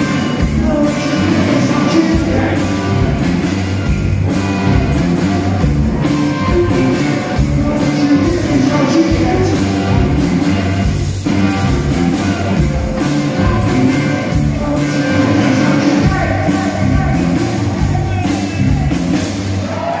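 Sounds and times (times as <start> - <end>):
man singing: 0.0 - 3.5, 4.8 - 19.2
live rock band: 0.0 - 20.0.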